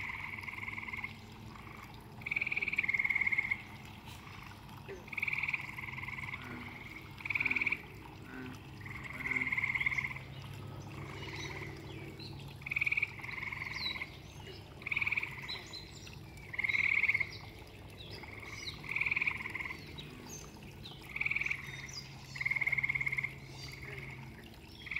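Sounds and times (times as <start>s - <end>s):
frogs trilling: 0.0s - 24.9s.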